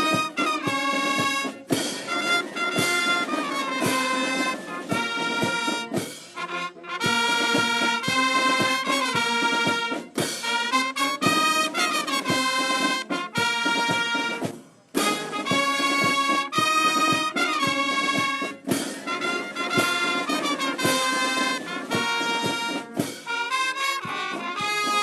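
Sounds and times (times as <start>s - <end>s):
brass music: 0.0s - 25.0s.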